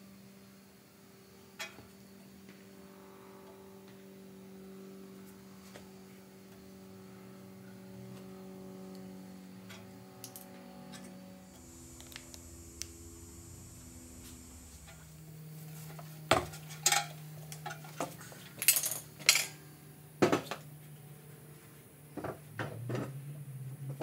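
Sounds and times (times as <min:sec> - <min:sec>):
steady low hum: 0:02.3 - 0:24.0.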